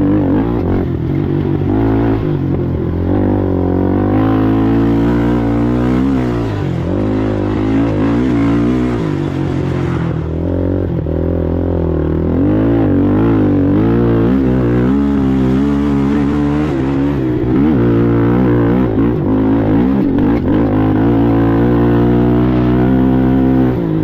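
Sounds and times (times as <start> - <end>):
racing atv engine revving: 0.0 - 24.0.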